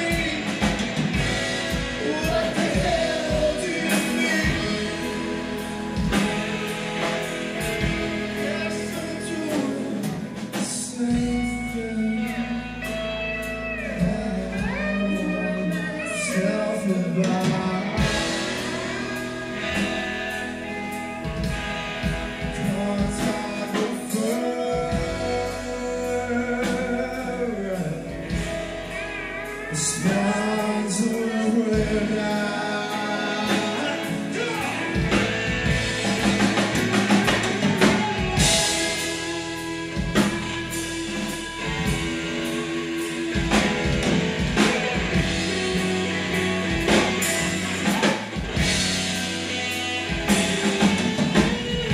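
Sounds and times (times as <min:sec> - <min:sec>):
drums: 0:00.0 - 0:51.9
electric bass: 0:00.0 - 0:51.9
person singing lead vocals: 0:00.0 - 0:51.9.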